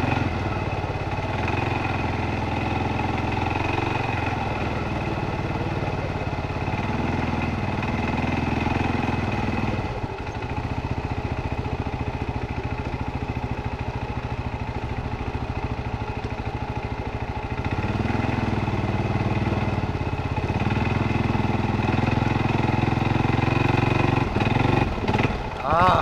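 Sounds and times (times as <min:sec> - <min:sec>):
atv engine putting and revving: 0:00.0 - 0:26.0.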